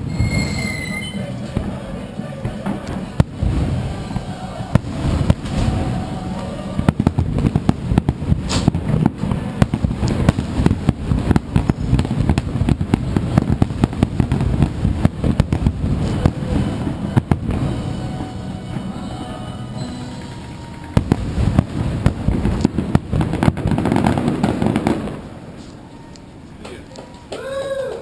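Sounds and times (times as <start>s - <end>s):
fireworks bursting: 0.0s - 26.8s.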